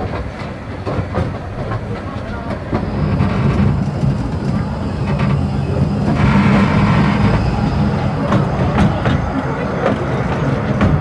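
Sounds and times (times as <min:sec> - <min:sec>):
rail clicks: 0:00.0 - 0:11.0
steam locomotive passing: 0:00.0 - 0:11.0
train wheels rumbling on track: 0:00.0 - 0:11.0.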